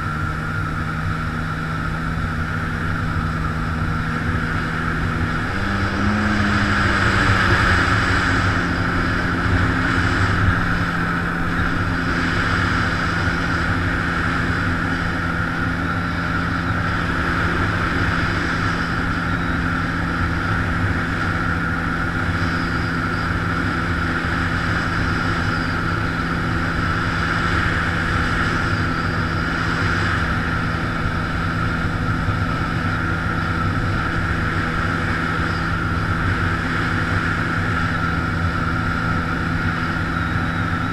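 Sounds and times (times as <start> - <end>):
hiss of water and wind: 0.0 - 40.9
jet ski engine: 0.0 - 40.9.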